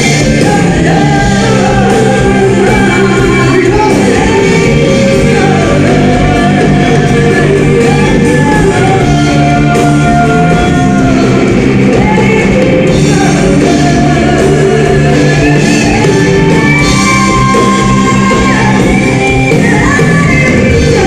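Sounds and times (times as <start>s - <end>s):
live band playing rock music: 0.0s - 21.0s
person singing long notes: 0.0s - 21.0s.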